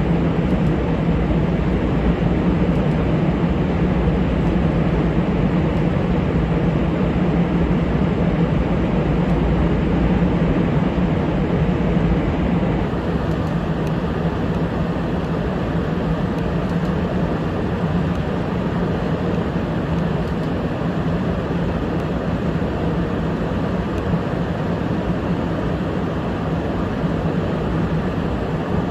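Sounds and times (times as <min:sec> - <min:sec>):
jet engine rumble: 0:00.0 - 0:28.9.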